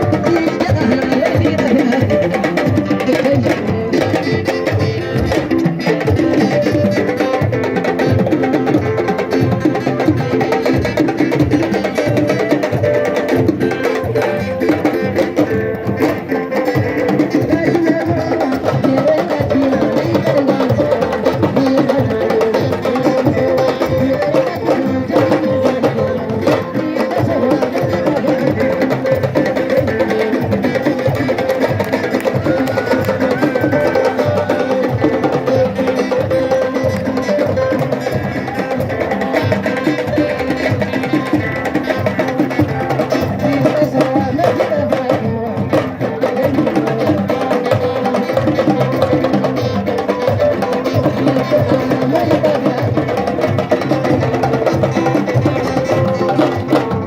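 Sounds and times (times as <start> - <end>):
hand drum percussion: 0.0 - 57.0
pitched instruments: 0.0 - 57.0.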